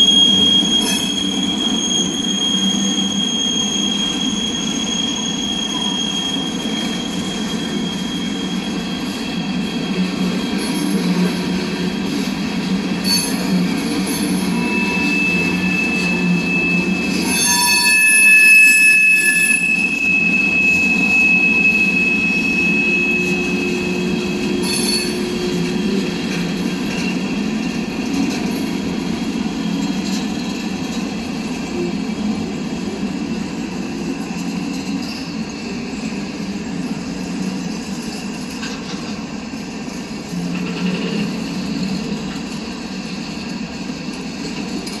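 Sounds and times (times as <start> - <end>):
high wheel squeal: 0.0 - 39.1
train wheels rolling on rails: 0.0 - 45.0.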